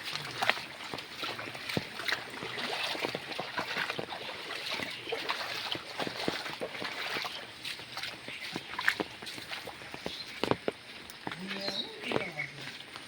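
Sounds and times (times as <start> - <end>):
floodwater rushing: 0.0 - 13.0
small sharp splashes: 0.0 - 13.0.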